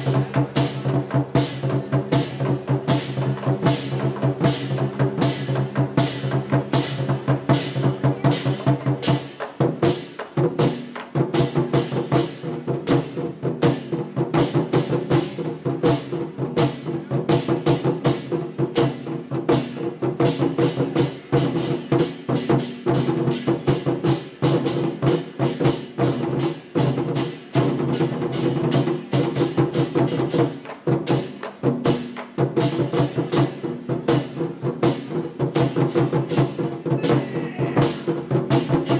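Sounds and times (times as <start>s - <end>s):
war drums: 0.0s - 38.9s.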